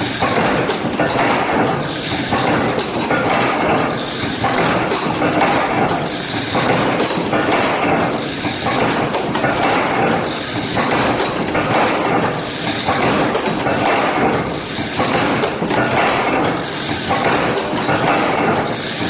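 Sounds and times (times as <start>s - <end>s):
wire bending machine clatter: 0.0s - 19.0s.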